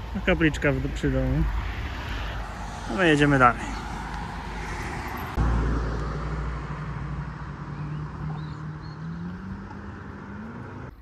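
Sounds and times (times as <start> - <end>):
distant engine hum: 0.0 - 11.0.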